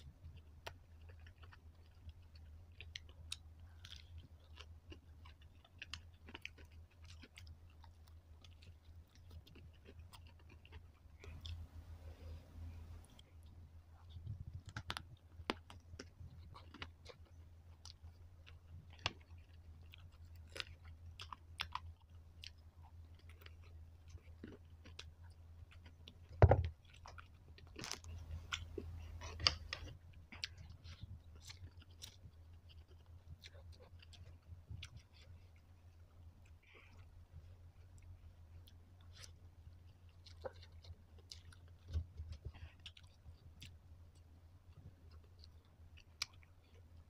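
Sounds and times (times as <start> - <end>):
chewing and crunching: 0.0 - 47.0
steady low hum: 0.0 - 47.0.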